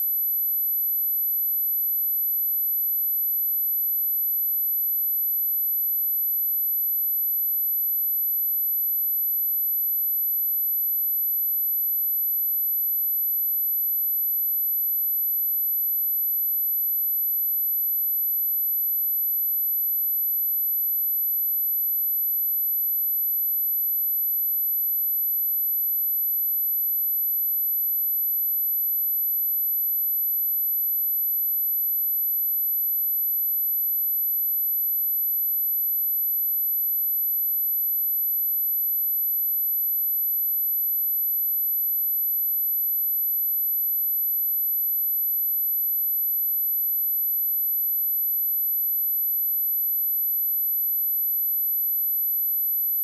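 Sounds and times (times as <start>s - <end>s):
high-pitched sine test tone: 0.0s - 53.0s.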